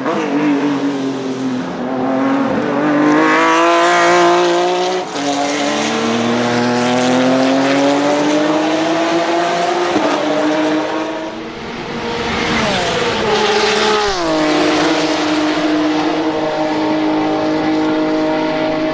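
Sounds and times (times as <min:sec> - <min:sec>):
race car engine revving: 0:00.0 - 0:18.9.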